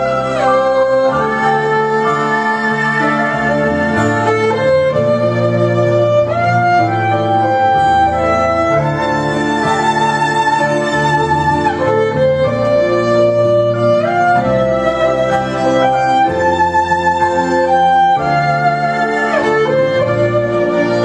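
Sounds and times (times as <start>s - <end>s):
held chords and bass line: 0.0s - 21.0s
violin melody: 0.0s - 21.0s.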